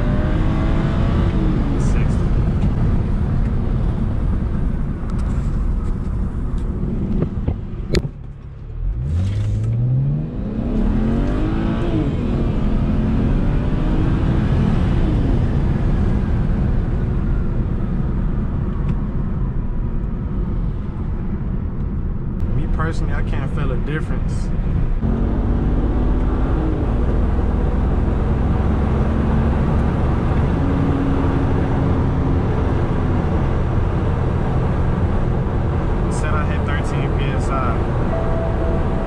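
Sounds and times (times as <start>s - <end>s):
car engine accelerating: 0.0s - 19.2s, 22.4s - 39.0s.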